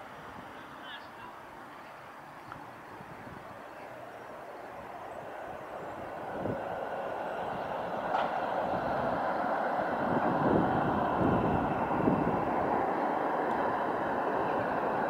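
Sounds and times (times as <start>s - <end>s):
road traffic: 0.0s - 15.0s
vehicle passing close: 2.6s - 15.0s.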